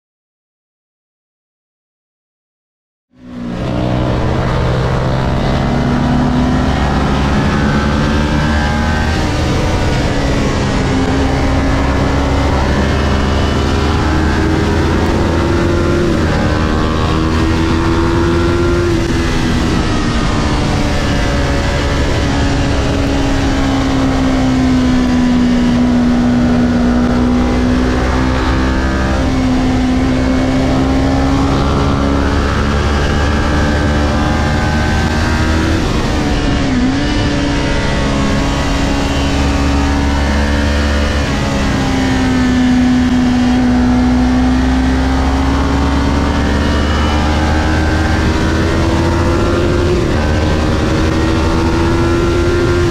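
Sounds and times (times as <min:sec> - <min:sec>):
motorcycle engine at high revs: 0:03.1 - 0:52.9
wind rushing: 0:03.7 - 0:52.9.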